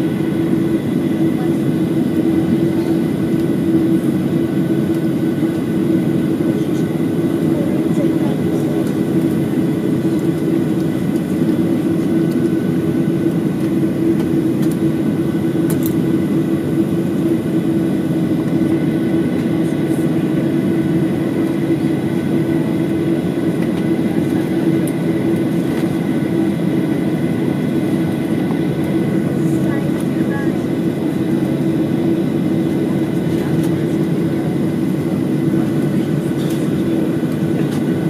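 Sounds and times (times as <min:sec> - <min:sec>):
jet engines idling: 0:00.0 - 0:38.0.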